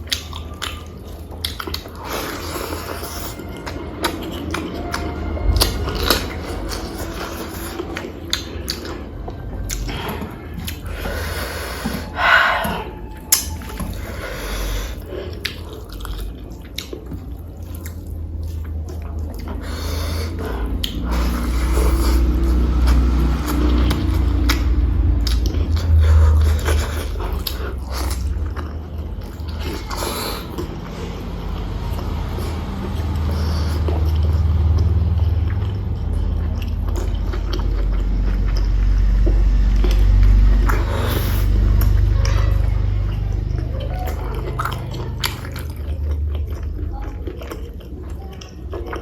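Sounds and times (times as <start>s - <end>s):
wet chewing and mouth noises: 0.0s - 49.0s.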